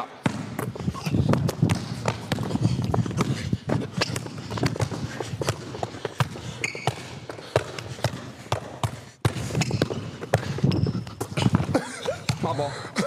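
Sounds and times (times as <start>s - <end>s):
basketball bouncing on court floor: 0.2s - 12.6s.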